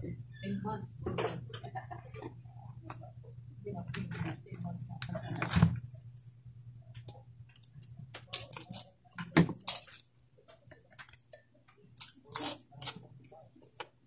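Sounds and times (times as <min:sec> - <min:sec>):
steady low hum: 0:00.0 - 0:14.0
chewing and crunching food: 0:01.6 - 0:06.2, 0:07.0 - 0:14.0.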